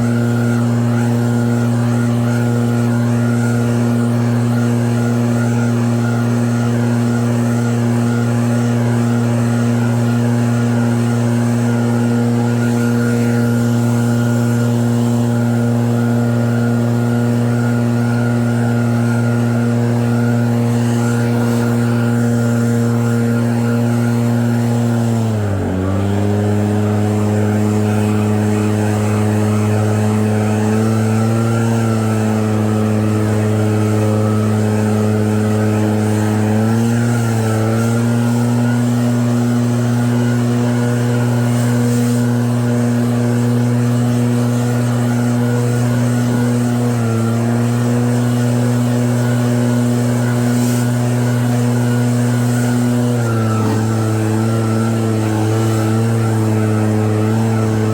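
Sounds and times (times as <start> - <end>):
snow blower engine running: 0.0 - 57.9.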